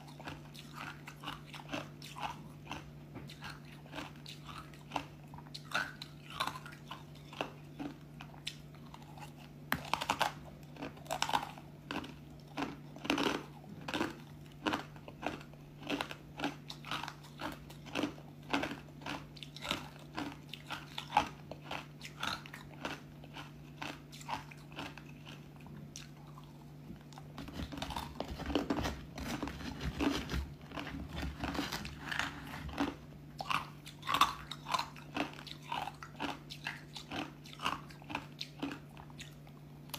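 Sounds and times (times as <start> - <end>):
ice crunching between teeth: 0.0 - 26.5, 27.1 - 39.4.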